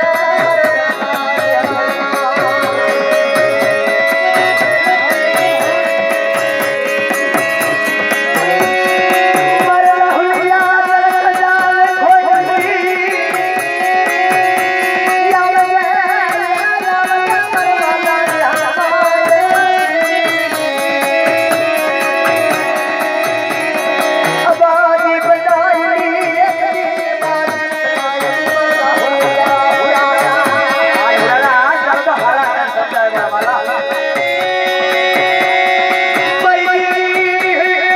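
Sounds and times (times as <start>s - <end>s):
folk melody: 0.0s - 37.9s
steady drum beat: 0.0s - 37.9s.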